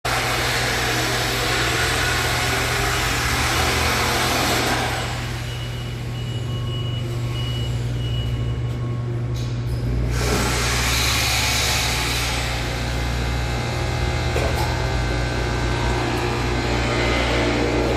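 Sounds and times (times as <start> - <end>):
machine humming: 0.1 - 17.9.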